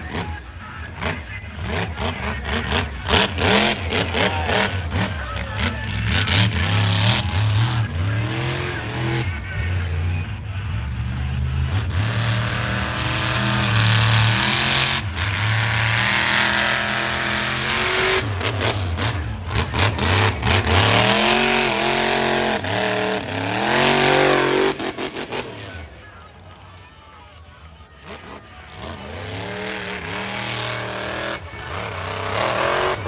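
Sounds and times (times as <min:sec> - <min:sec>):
truck engine revving hard: 0:00.0 - 0:26.6, 0:28.0 - 0:33.0.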